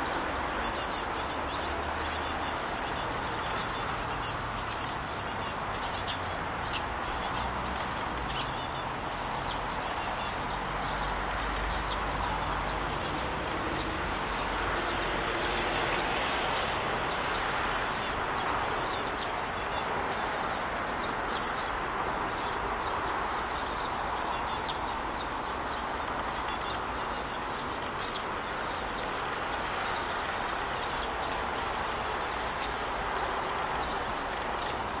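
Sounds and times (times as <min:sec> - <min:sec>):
small birds chirping: 0:00.0 - 0:35.0
wind through leaves: 0:00.0 - 0:35.0.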